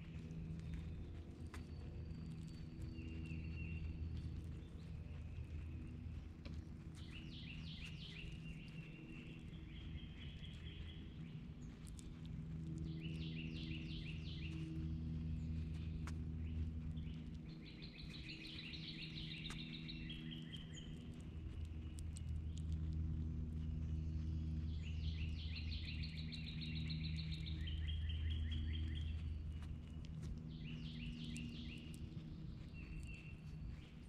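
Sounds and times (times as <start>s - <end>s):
low steady hum: 0.0s - 34.0s
songbird singing: 0.0s - 34.0s.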